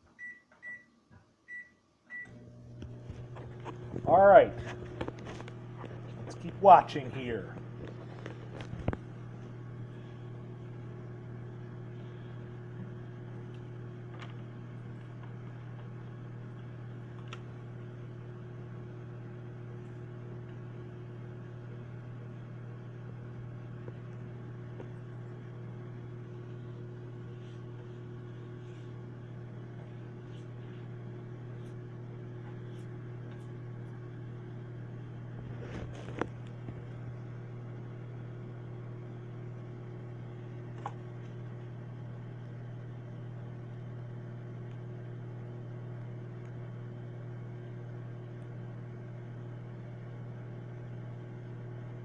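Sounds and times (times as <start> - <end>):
microwave oven humming: 0.0 - 52.0.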